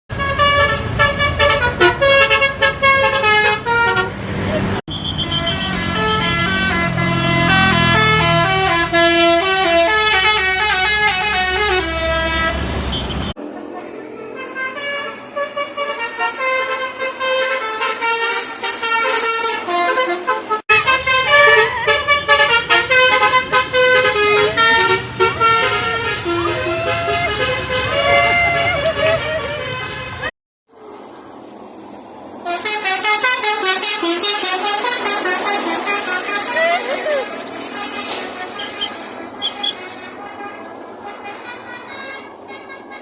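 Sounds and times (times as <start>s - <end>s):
musical bus horns playing tunes: 0.1s - 30.3s, 32.4s - 43.0s.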